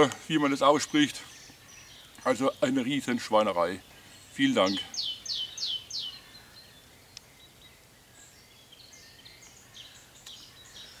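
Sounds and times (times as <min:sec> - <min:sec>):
faint songbirds calling: 0:00.0 - 0:11.0
light outdoor hiss: 0:00.0 - 0:11.0.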